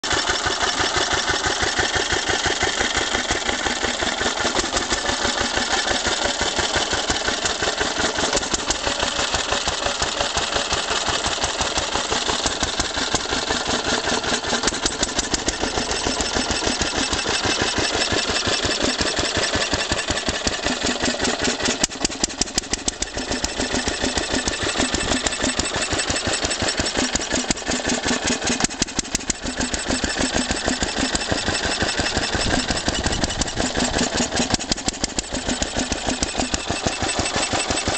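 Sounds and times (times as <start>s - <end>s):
stationary engine running: 0.0s - 37.9s.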